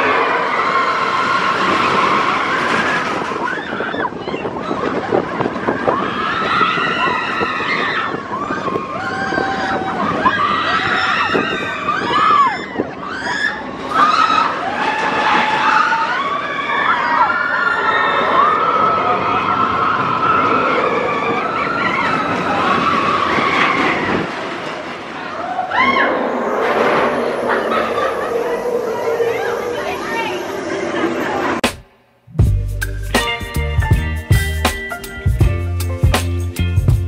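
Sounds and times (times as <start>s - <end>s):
riders screaming: 0.0s - 24.6s, 25.2s - 31.5s
roller coaster train rumbling: 0.0s - 31.8s.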